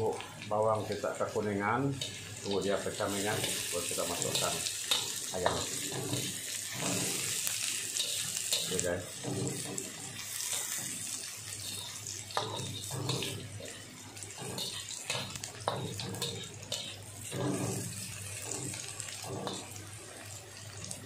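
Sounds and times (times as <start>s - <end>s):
oil sizzling in a wok: 0.0s - 21.0s.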